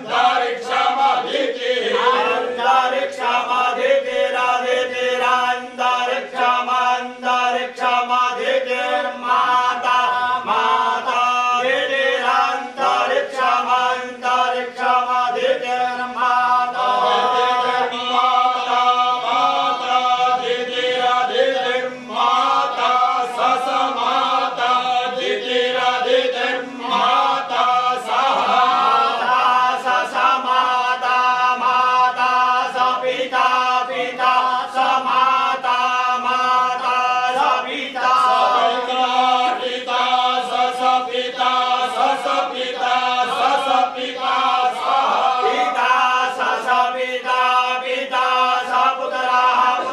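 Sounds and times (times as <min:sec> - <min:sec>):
men chanting in unison: 0:00.0 - 0:49.9.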